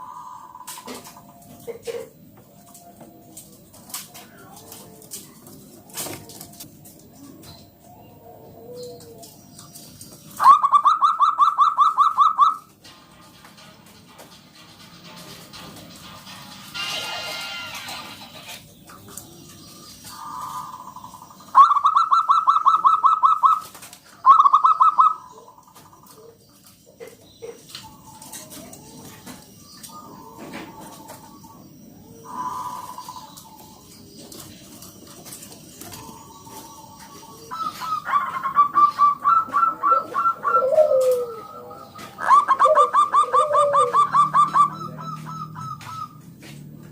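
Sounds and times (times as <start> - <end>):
dove cooing: 0.0 - 2.3, 4.2 - 12.7, 19.4 - 46.5.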